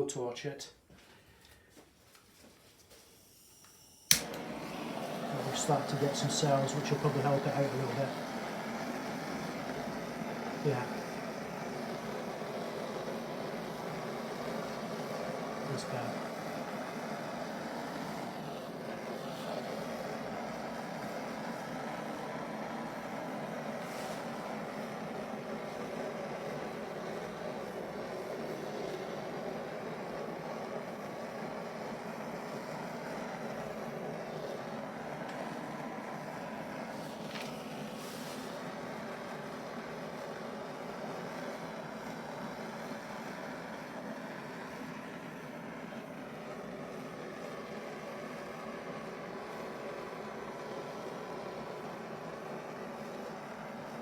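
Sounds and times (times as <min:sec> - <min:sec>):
blowtorch flame roaring: 0:04.1 - 0:54.0.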